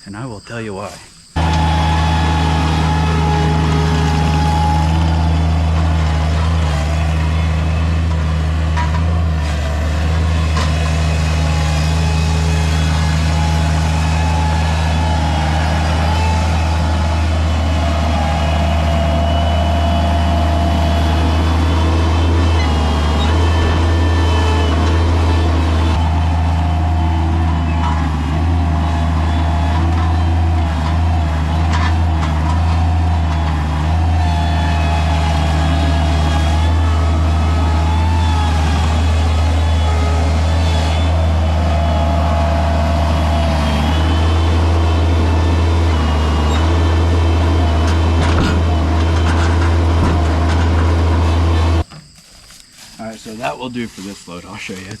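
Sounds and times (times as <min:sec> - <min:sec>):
hydraulic whine: 0:00.8 - 0:55.0
skid steer engine running: 0:01.4 - 0:52.0.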